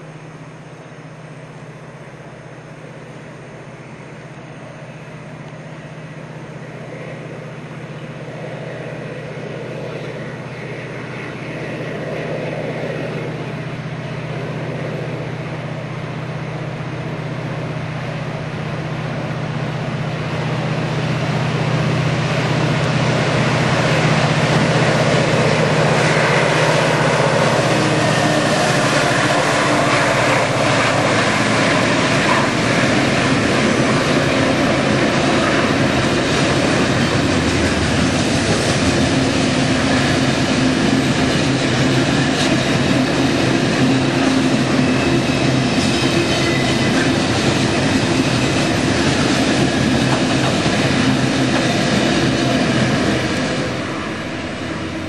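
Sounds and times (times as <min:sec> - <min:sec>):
diesel locomotive engine drone: 0:00.0 - 0:55.0
train wheels on rails: 0:00.0 - 0:55.0.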